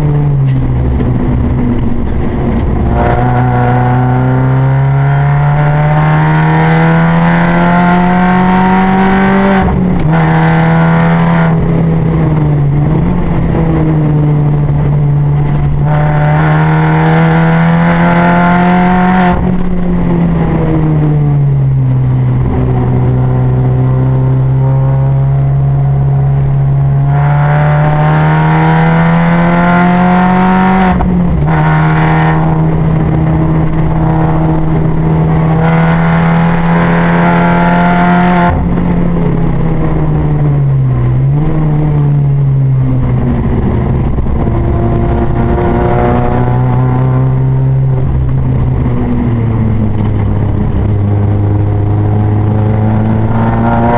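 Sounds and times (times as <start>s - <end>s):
race car engine droning: 0.0s - 53.9s.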